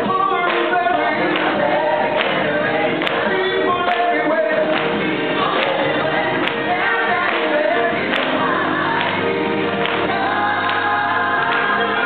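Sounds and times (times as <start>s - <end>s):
gospel choir singing in harmony: 0.0s - 12.0s.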